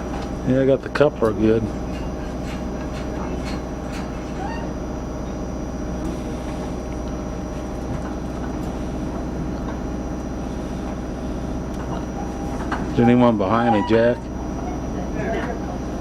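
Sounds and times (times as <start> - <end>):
train diesel engine drone: 0.0 - 16.0.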